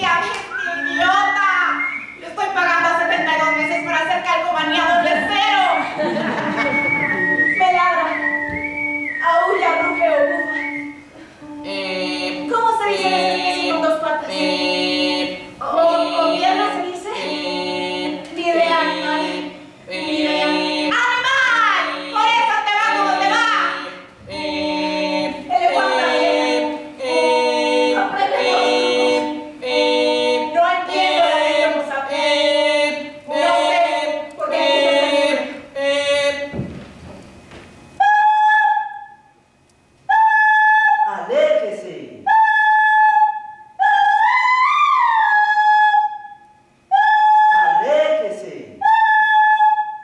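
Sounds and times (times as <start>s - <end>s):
voices singing in harmony: 4.6s - 36.7s, 37.9s - 39.2s, 40.0s - 50.0s.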